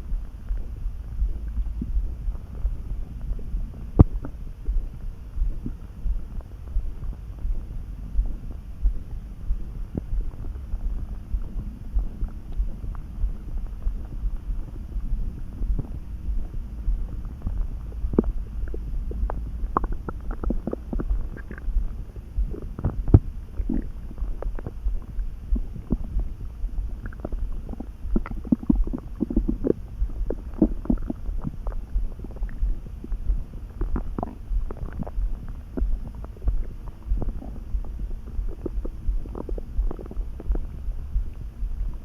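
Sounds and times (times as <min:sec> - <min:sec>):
stomach gurgling and rumbling: 0:00.0 - 0:42.0.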